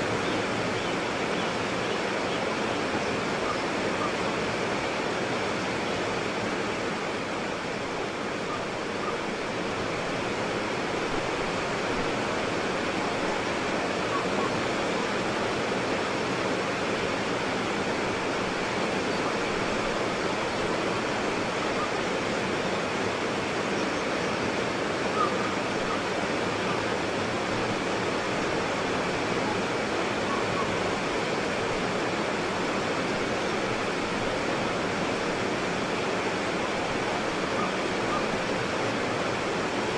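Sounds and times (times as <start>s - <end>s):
white water rapids rushing: 0.0s - 39.9s.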